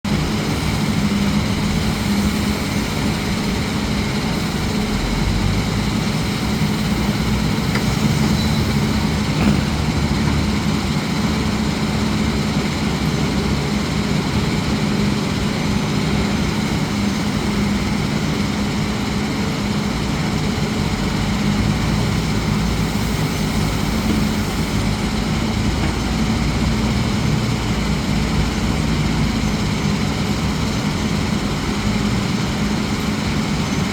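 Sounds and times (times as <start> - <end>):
heavy diesel engine running: 0.1 - 33.9.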